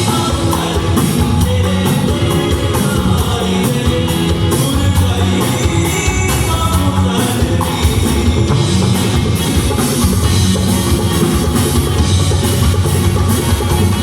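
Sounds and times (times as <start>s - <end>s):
heavy bass drum: 0.0s - 14.0s
live band playing: 0.0s - 14.0s.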